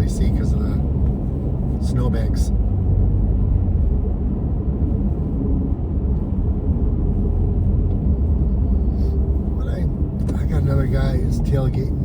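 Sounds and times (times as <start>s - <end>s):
car tyre and road noise: 0.0s - 12.0s.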